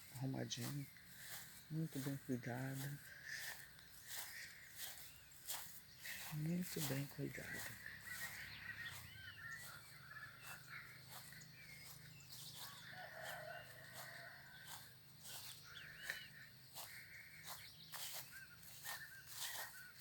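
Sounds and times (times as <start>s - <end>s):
birds chirping: 0.0s - 20.0s
footsteps on a path: 0.0s - 20.0s.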